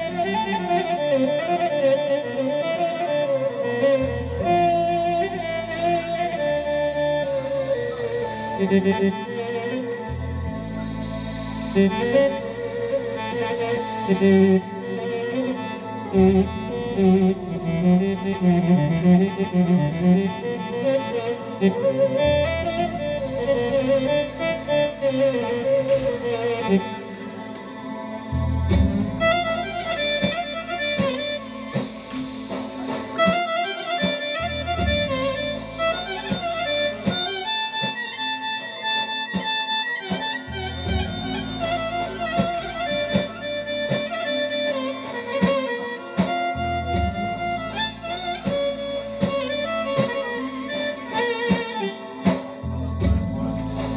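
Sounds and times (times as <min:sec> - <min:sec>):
held bass notes: 0:00.0 - 0:37.9, 0:40.4 - 0:51.2, 0:52.6 - 0:53.9
keyboard melodic improvisation: 0:00.0 - 0:53.9.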